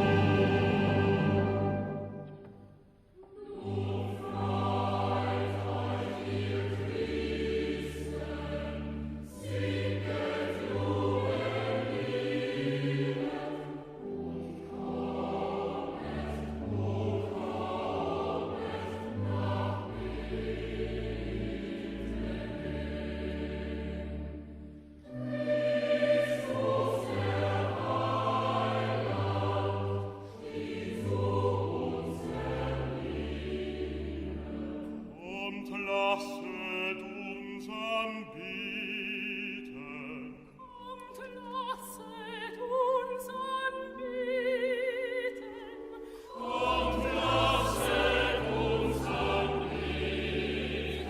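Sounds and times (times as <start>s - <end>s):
choir singing with instruments: 0.0s - 51.0s.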